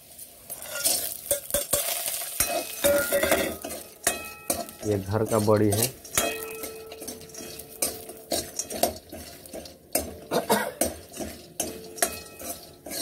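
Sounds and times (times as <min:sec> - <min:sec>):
metal spatula scraping a pan: 0:00.0 - 0:13.0.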